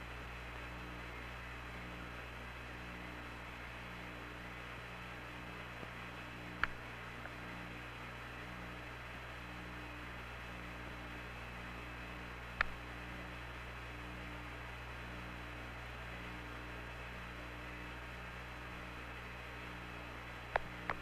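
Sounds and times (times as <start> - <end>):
radio line hum and hiss: 0.0 - 21.0.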